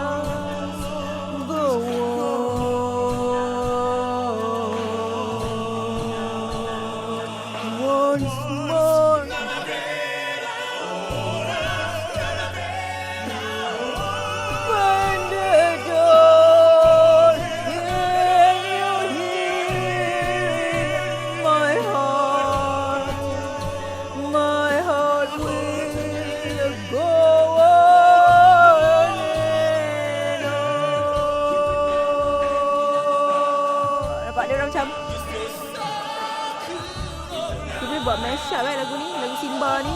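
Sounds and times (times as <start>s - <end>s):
person singing solo: 0.0s - 39.9s.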